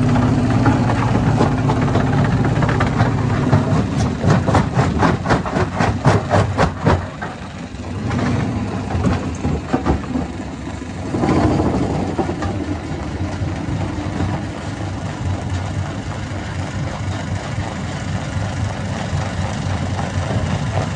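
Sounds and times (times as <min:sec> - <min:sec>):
stone crusher engine drone: 0:00.0 - 0:20.9.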